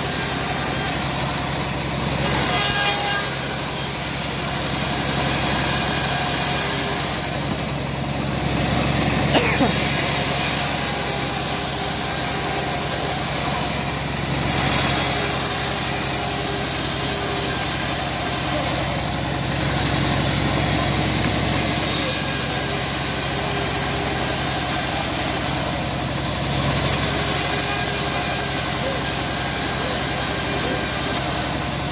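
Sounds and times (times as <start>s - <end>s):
band blade sawing wood: 0.0s - 31.9s
bandsaw mill droning: 0.0s - 31.9s.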